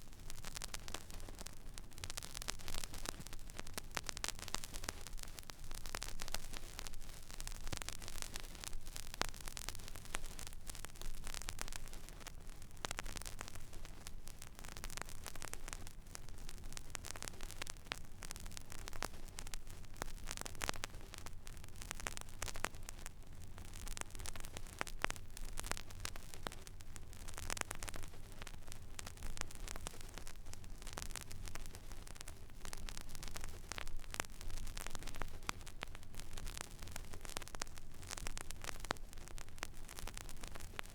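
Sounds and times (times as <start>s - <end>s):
vinyl crackles and pops: 0.0s - 40.9s.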